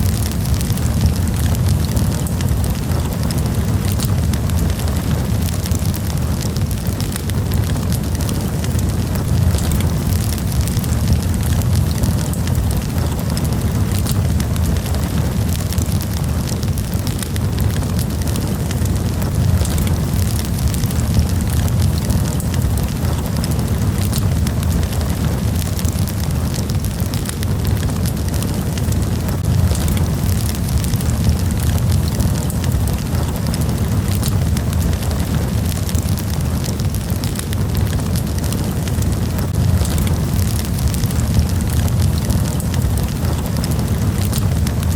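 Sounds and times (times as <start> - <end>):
campfire crackling and popping: 0.0 - 44.9
low fire rumble: 0.0 - 44.9.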